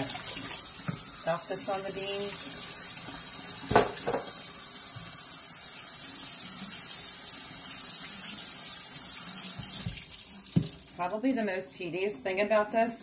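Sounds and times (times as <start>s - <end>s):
tap water running: 0.0s - 11.5s.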